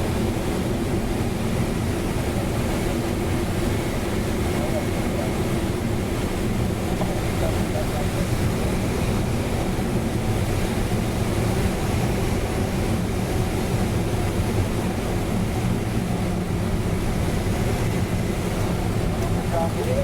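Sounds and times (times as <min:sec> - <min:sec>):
rushing noise in glider cockpit: 0:00.0 - 0:20.0.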